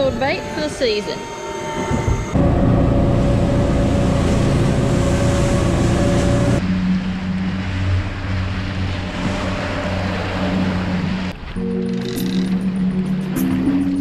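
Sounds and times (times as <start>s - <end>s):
wind: 0.0s - 14.0s
outboard motor running: 1.8s - 14.0s
rushing water: 2.4s - 14.0s.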